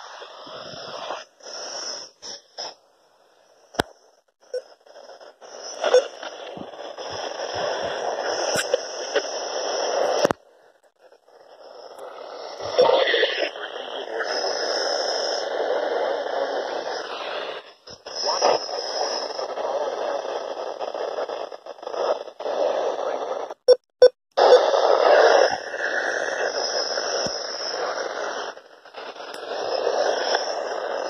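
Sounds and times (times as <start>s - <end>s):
radio static hiss: 0.0s - 2.9s, 3.6s - 23.7s, 24.4s - 31.0s.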